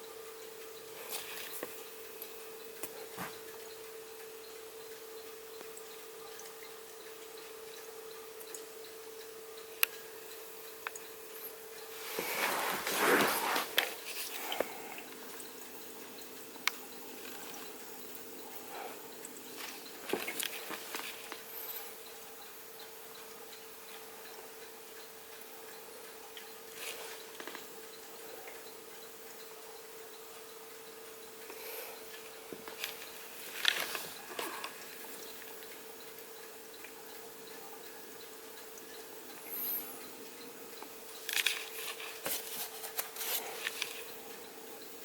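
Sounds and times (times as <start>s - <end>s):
faint regular ticking: 0.0s - 45.0s
humidifier humming: 0.0s - 45.0s
drip-like clicks: 0.4s - 11.9s, 13.7s - 45.0s.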